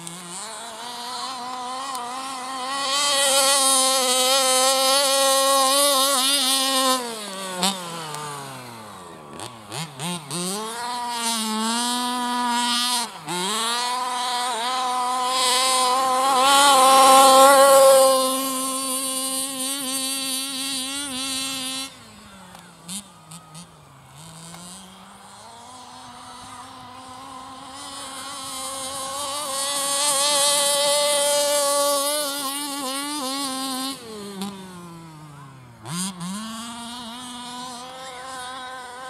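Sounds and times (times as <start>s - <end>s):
two-stroke engine revving: 0.0s - 39.0s.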